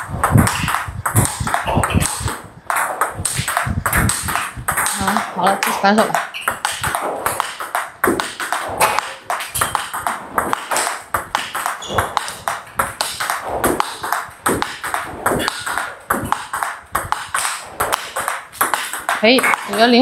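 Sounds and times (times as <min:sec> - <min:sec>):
ball clicking off bats: 0:00.0 - 0:20.0
ball bouncing on table: 0:00.2 - 0:20.0.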